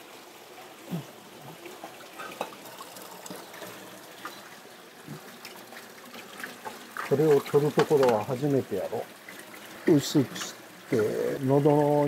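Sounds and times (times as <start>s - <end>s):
water trickling from a tap: 0.0s - 12.0s.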